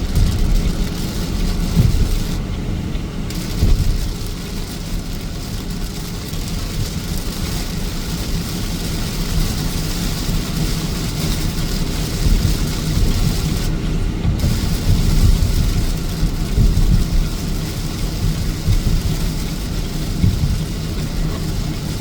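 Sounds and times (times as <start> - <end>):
car driving rumble: 0.0 - 22.0
constant hiss: 0.0 - 22.0.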